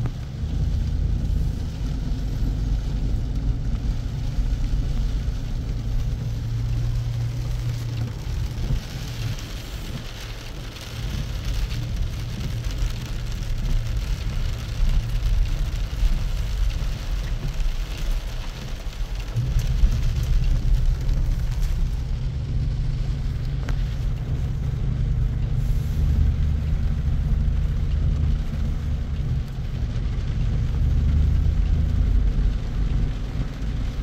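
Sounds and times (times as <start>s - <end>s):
car engine and road rumble: 0.0s - 34.0s
rain and wet tyres hissing: 0.0s - 34.0s.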